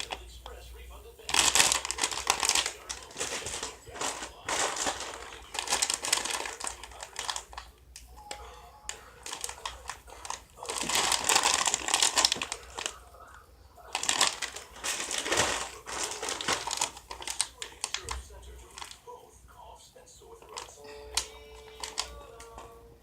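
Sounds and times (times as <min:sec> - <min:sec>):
plastic packaging crinkling: 0:00.0 - 0:00.6, 0:01.2 - 0:08.0, 0:08.8 - 0:19.2, 0:20.2 - 0:22.7.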